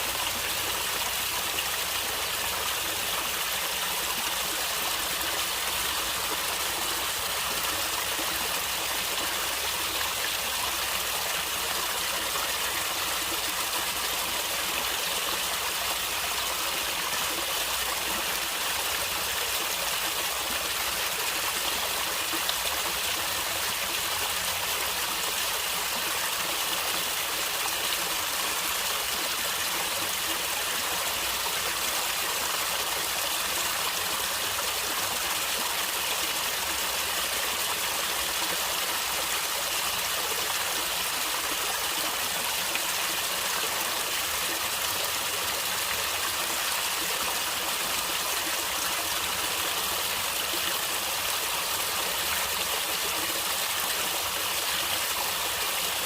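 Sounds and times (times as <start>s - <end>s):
flowing water gurgling: 0.0s - 56.0s.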